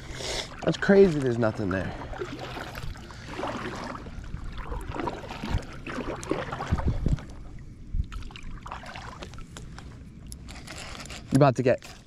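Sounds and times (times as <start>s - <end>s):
water sloshing around a kayak: 0.0s - 12.0s.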